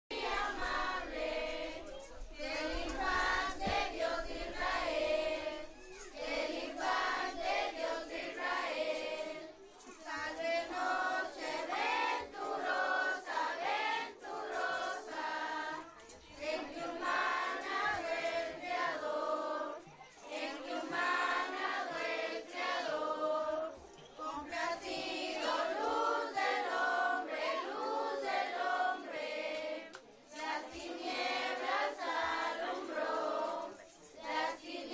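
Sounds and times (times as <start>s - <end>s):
children singing together: 0.1s - 34.9s.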